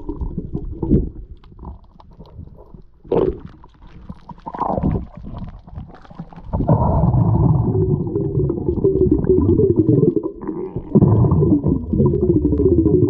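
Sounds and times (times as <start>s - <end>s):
low wavering growl underwater: 0.0s - 13.0s.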